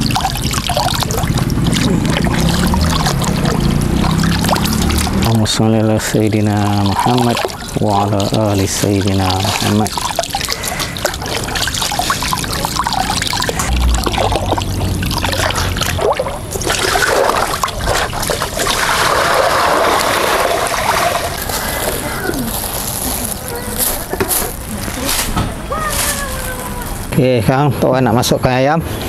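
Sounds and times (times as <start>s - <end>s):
water trickling and splashing: 0.0s - 27.3s.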